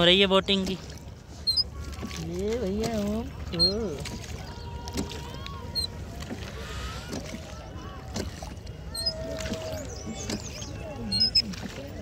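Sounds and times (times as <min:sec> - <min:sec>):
water and wind rushing: 0:00.0 - 0:12.0
oars knocking: 0:00.5 - 0:12.0
distant shouts and chatter: 0:00.8 - 0:12.0.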